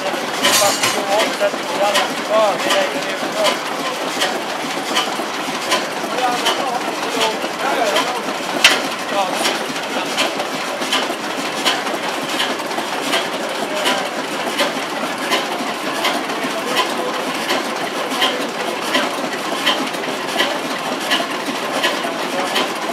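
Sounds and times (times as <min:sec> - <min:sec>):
diesel engine clatter: 0:00.0 - 0:22.9
sharp engine clicks: 0:00.0 - 0:22.9.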